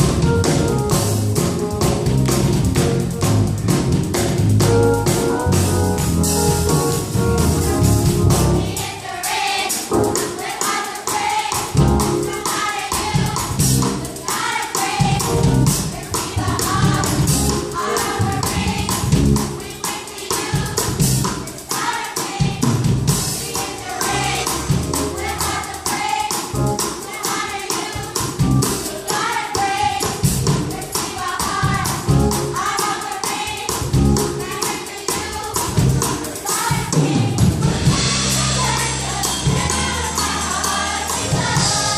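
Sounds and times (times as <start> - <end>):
band with drums and bass: 0.0 - 41.9
gospel choir singing: 6.7 - 41.9.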